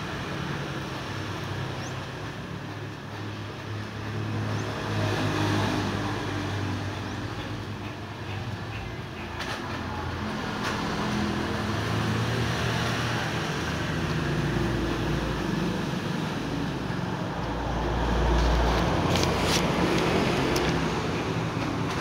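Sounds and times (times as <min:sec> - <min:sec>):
traffic noise: 0:00.0 - 0:22.0
vehicle engine hum: 0:00.0 - 0:22.0.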